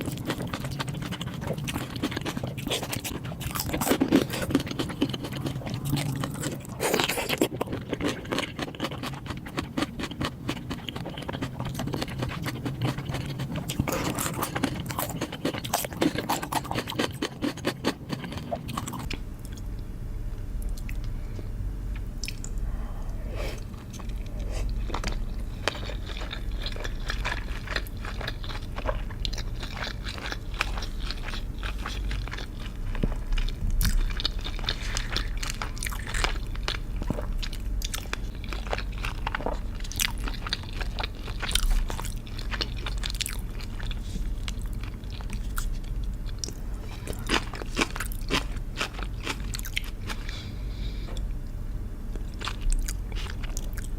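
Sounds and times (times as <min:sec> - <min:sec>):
wet chewing: 0:00.0 - 0:19.6, 0:23.5 - 0:50.3
low steady hum: 0:00.0 - 0:53.9.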